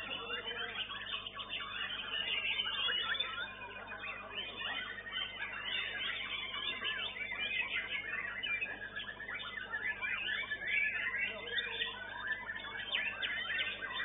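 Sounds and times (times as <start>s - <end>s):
birds singing whistled phrases: 0.0s - 14.0s.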